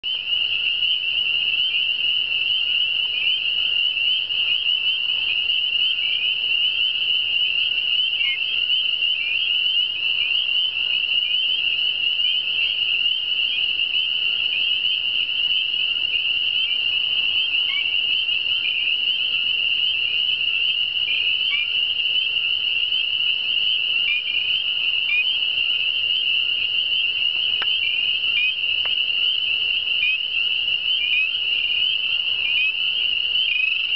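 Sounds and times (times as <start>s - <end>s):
chorus of frogs peeping: 0.0s - 33.9s.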